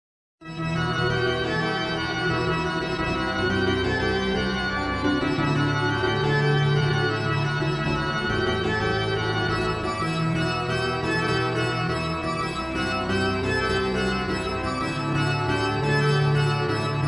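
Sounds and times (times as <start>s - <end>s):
music of long held chords: 0.5s - 17.0s.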